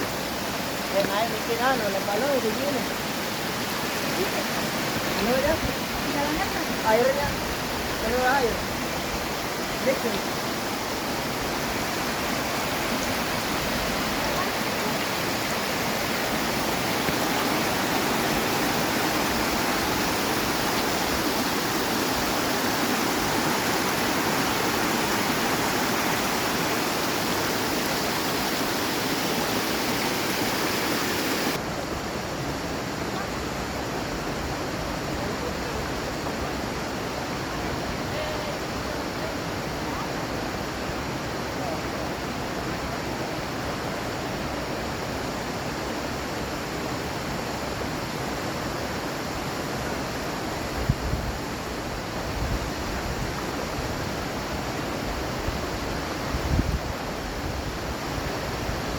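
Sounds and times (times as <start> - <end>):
mountain stream rushing: 0.0 - 58.9.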